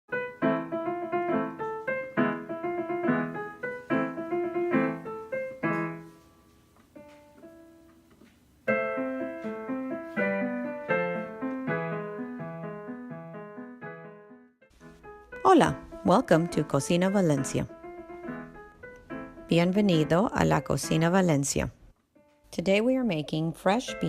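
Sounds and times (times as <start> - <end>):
solo piano melody: 0.1 - 24.0.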